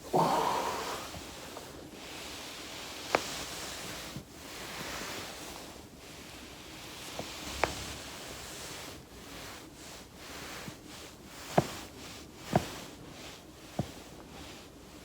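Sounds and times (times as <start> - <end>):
soft rustle: 0.5 - 15.0.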